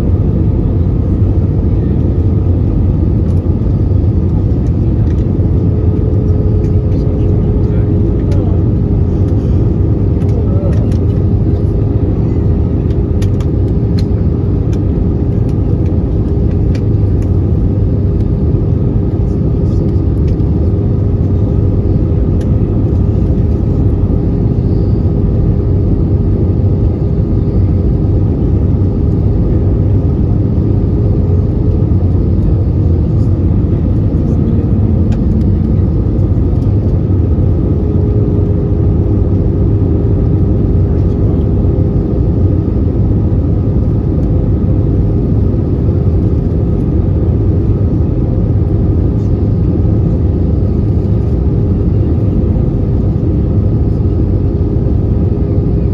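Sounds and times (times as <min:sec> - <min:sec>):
airliner cabin engine rumble: 0:00.0 - 0:55.9
steady hum: 0:00.0 - 0:55.9.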